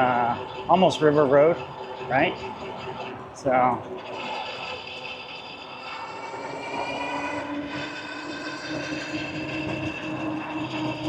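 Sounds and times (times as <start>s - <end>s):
e-bike hub motors whining: 0.0s - 11.0s.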